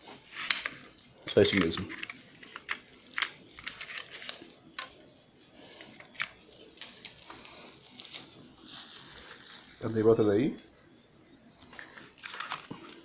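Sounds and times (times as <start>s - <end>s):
soft packaging rustling: 0.0s - 10.6s, 11.4s - 13.0s.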